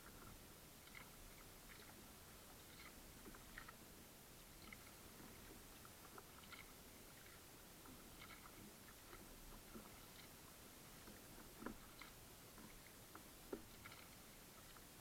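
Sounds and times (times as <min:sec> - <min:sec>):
small irregular clicks: 0:00.0 - 0:03.9, 0:04.5 - 0:15.0.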